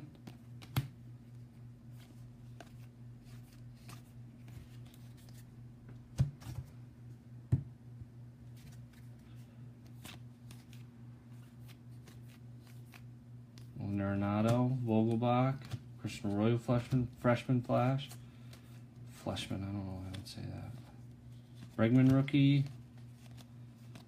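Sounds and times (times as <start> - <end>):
steady low hum: 0.0 - 24.0
cards flipped through: 0.1 - 1.0, 1.9 - 5.5, 8.5 - 13.8, 14.4 - 24.0.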